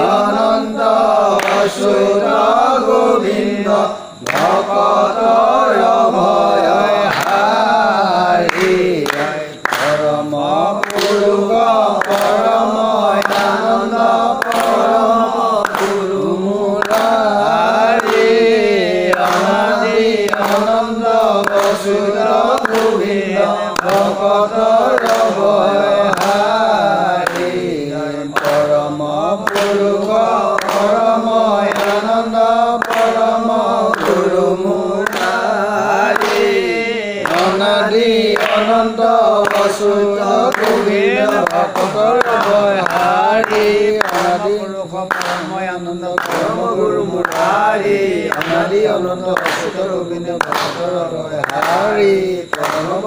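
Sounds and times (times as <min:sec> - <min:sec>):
voices chanting melodically: 0:00.0 - 0:53.0.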